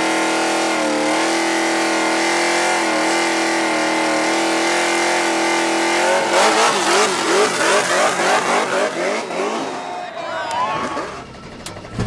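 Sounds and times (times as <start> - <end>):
racing car engine revving: 0.0 - 10.2.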